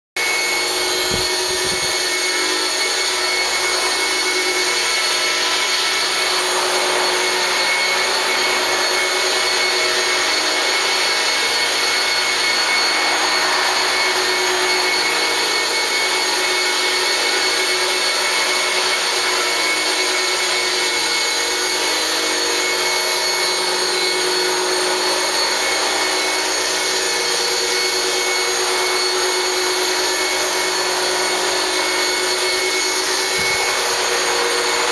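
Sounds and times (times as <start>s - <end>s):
electric motor whine: 0.2s - 34.9s.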